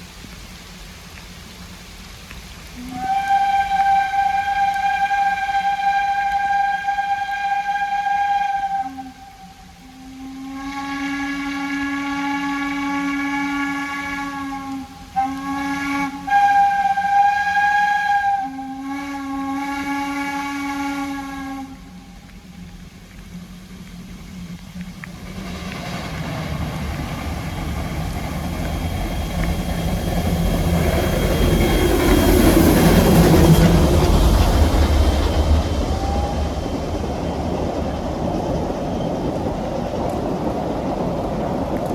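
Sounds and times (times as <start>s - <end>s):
steam locomotive whistle blowing: 2.8s - 22.7s, 23.6s - 39.7s.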